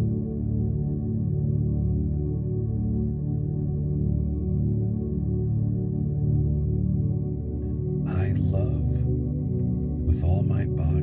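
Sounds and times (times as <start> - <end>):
ambient music with low tones: 0.0 - 11.0.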